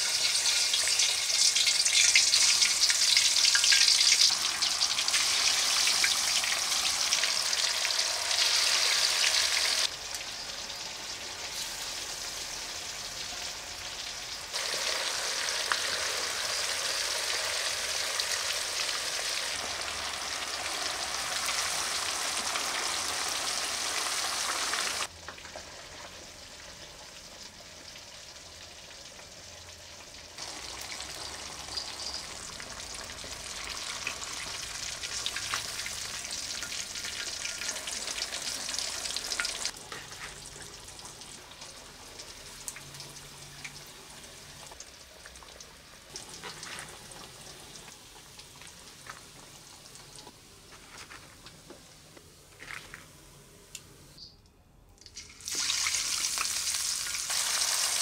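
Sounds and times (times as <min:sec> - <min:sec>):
fish sizzling in hot oil: 0:00.0 - 0:50.5, 0:55.2 - 0:58.0.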